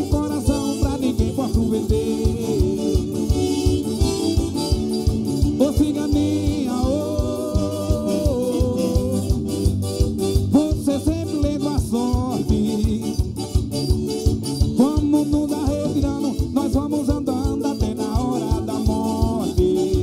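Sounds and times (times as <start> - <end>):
accordion melody: 0.0 - 20.0
high ticking rhythm: 0.0 - 20.0
steady bass drum beat: 0.0 - 20.0.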